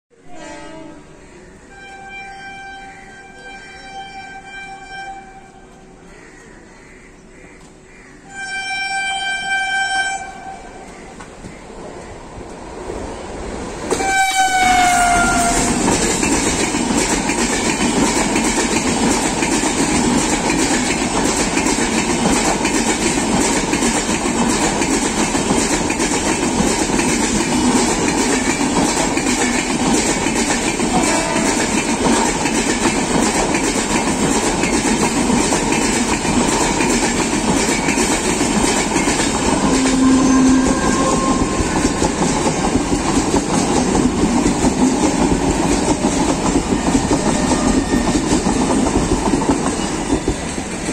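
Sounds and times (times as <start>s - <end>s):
train coaches rumbling past: 0.1s - 50.9s.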